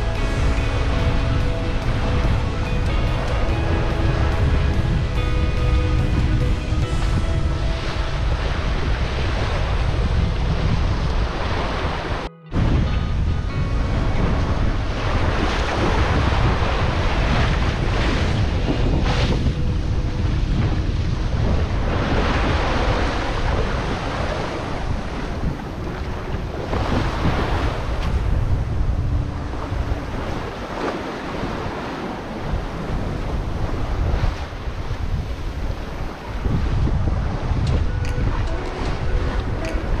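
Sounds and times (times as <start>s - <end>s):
rough sea breaking along hull: 0.0s - 40.0s
wind buffeting microphone: 0.0s - 40.0s.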